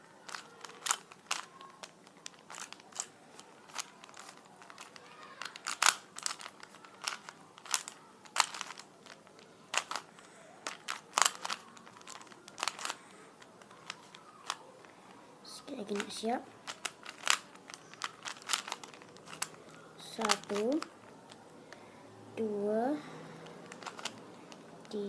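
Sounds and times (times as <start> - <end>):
plastic cube clicks and clacks: 0.2 - 14.6, 15.9 - 21.4, 23.4 - 25.0.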